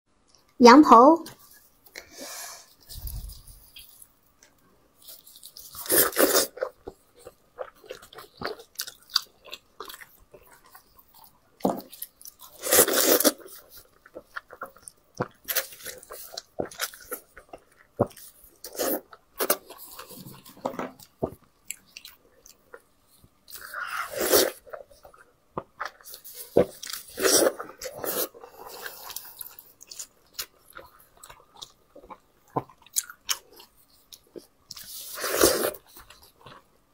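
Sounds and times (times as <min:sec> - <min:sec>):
person chewing meat: 0:02.8 - 0:36.9.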